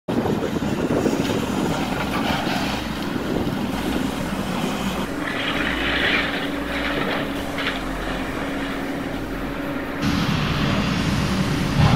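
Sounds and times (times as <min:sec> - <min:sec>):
excavator diesel engine running: 0:00.1 - 0:11.9.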